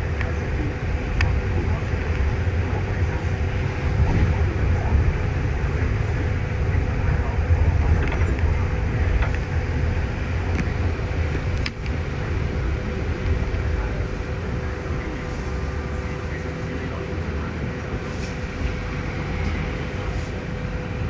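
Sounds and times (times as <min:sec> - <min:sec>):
bus engine rumble and road noise: 0:00.0 - 0:21.0
faint steady whine: 0:00.0 - 0:21.0.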